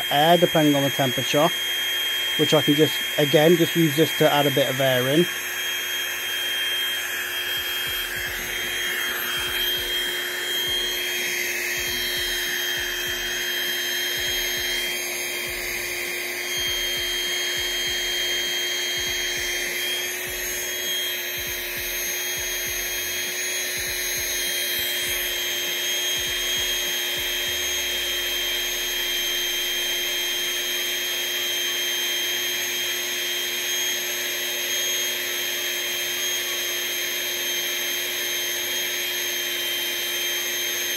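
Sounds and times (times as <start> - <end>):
air inflator motor hum: 0.0 - 40.9.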